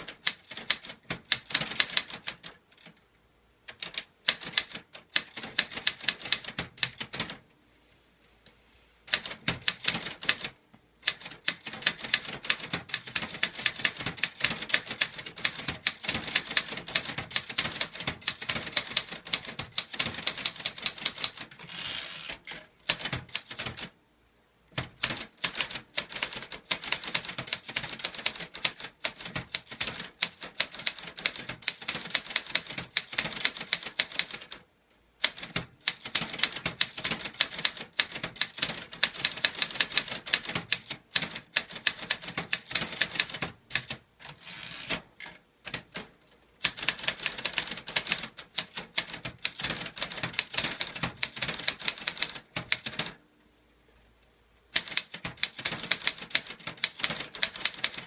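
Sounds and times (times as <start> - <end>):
manual typewriter keystroke clacks: 0.0 - 3.0, 3.7 - 7.4, 9.1 - 21.6, 22.3 - 24.0, 24.8 - 34.6, 35.2 - 53.2, 54.7 - 58.0.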